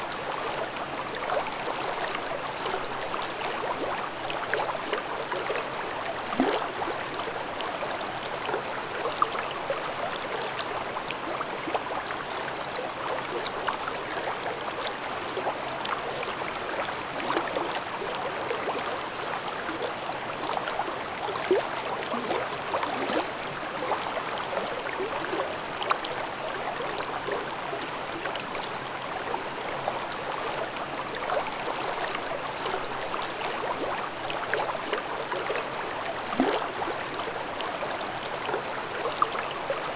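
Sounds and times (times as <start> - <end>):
stream babbling over rocks: 0.1 - 39.9.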